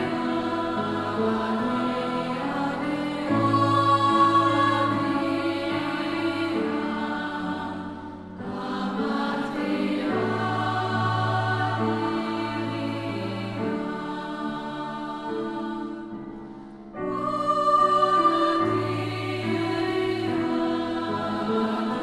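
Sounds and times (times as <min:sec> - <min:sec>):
choral music: 0:00.0 - 0:22.0.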